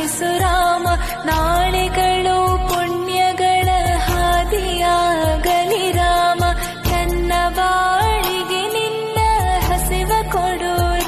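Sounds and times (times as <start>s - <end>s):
devotional song with deep bass: 0.0s - 11.0s.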